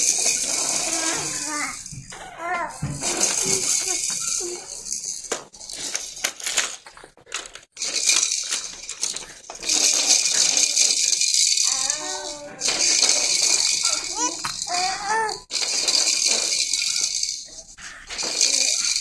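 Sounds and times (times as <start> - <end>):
plastic rattle toy shaken: 0.0 - 19.0.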